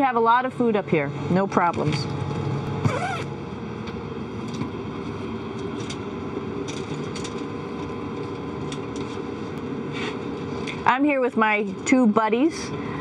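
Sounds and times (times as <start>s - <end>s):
cabin fans humming: 0.0s - 13.0s.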